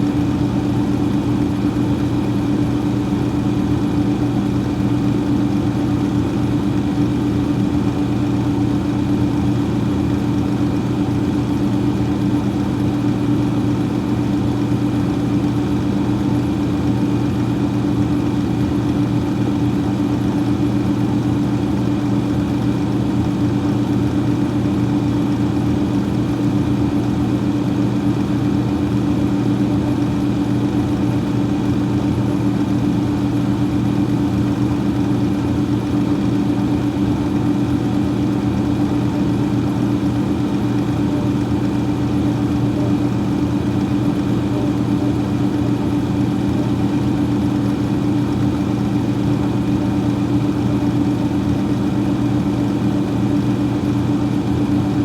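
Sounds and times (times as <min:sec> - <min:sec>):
freezer fan humming: 0:00.0 - 0:55.0.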